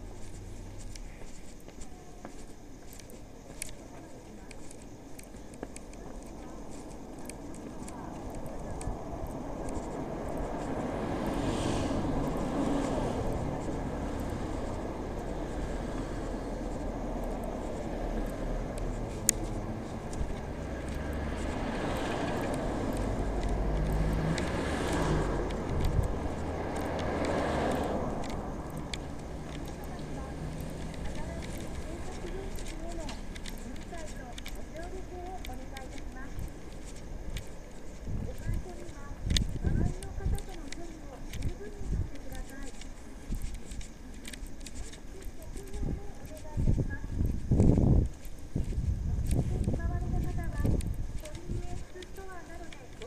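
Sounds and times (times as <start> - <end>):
faint street noise rumble: 0.0 - 53.0
footsteps on pavement: 0.0 - 53.0
road noise: 0.0 - 53.0
car passing: 6.2 - 53.0.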